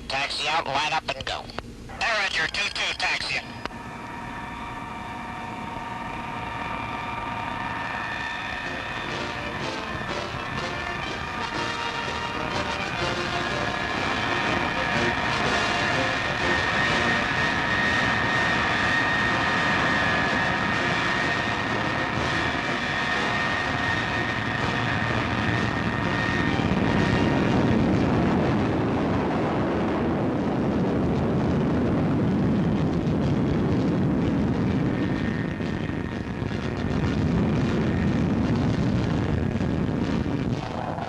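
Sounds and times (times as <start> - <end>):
jet engines whining and rumbling: 0.0 - 41.0.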